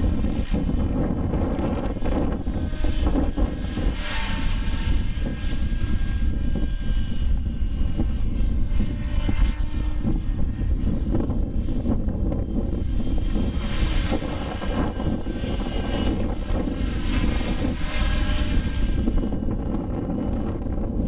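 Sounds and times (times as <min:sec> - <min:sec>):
model helicopter rotor whine: 0:00.0 - 0:21.0
wind rumble on microphone: 0:00.0 - 0:21.0.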